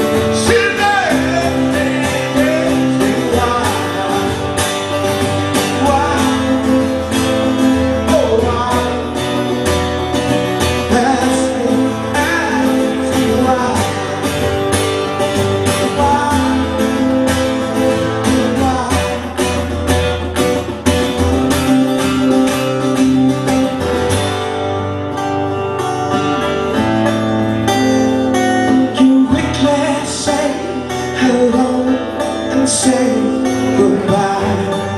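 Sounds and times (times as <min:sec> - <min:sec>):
bass line: 0:00.0 - 0:34.9
guitar: 0:00.0 - 0:34.9.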